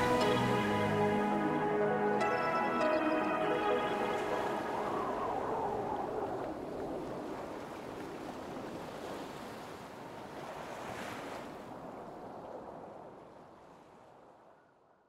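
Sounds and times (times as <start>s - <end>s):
ocean surf: 0.0s - 12.1s
wind: 0.0s - 15.0s.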